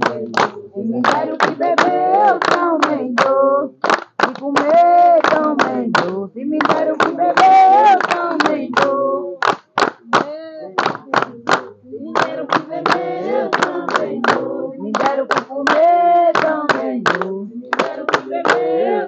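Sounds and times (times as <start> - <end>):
hands clapping steady beat: 0.0 - 19.0
women and children singing a hymn: 0.0 - 19.0.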